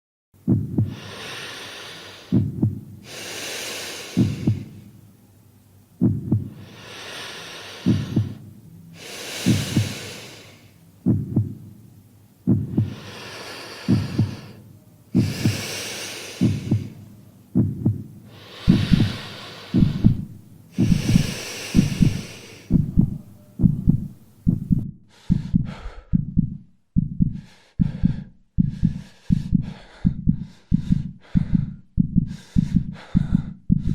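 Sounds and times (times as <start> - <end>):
pounding heartbeat: 0.4 - 1.3, 2.3 - 4.9, 6.0 - 6.9, 7.8 - 8.6, 9.2 - 11.8, 12.5 - 14.6, 15.2 - 33.9
heavy slow breathing: 0.5 - 5.0, 6.0 - 11.7, 12.4 - 26.5, 27.2 - 33.9.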